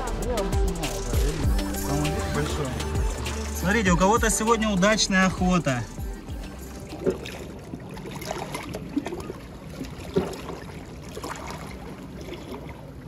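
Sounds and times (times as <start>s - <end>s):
water splashes: 0.0s - 13.0s
waves lapping against rocks: 0.8s - 13.0s.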